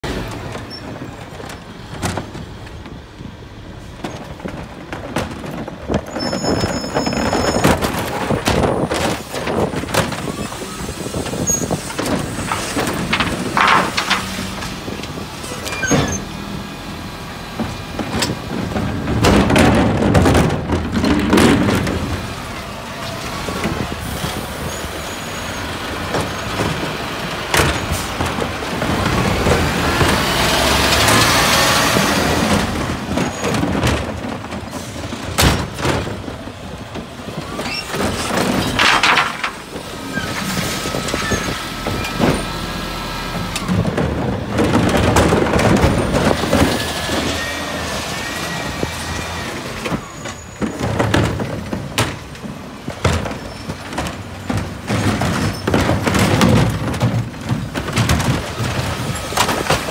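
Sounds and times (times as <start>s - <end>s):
refuse lorry running: 0.0s - 59.9s
wheelie bins clattering over paving: 0.0s - 59.9s.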